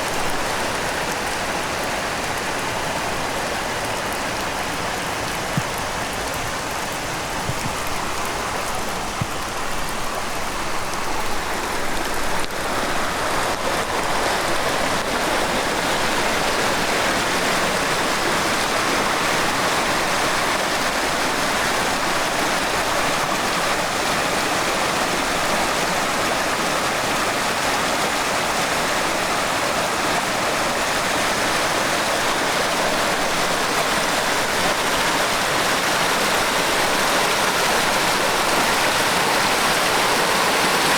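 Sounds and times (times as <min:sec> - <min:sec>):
rushing stream: 0:00.0 - 0:40.9
steady rainfall: 0:00.0 - 0:40.9.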